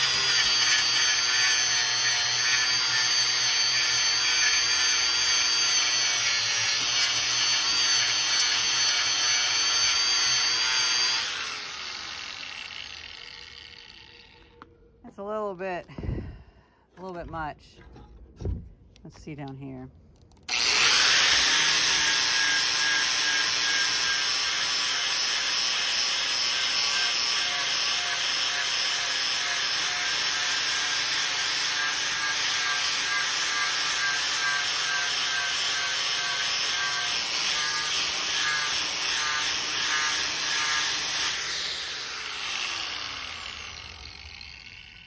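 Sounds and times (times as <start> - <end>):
angle grinder sanding wood: 0.0 - 14.4, 20.5 - 45.0.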